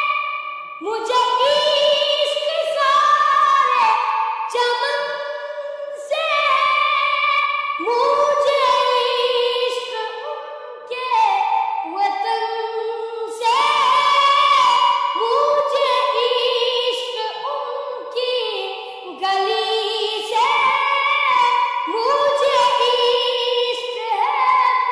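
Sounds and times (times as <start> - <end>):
child singing unaccompanied: 0.0 - 24.9.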